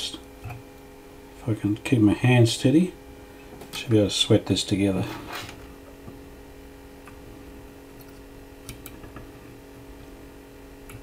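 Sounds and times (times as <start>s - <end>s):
quiet steady hum: 0.0s - 11.0s.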